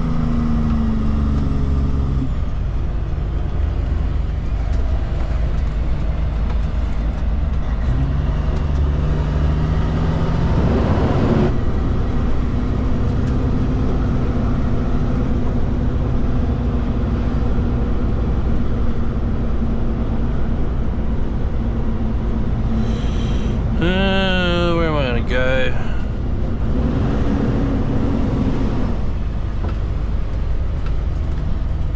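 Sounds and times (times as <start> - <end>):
road noise: 0.0 - 31.9
truck engine running: 0.0 - 31.9.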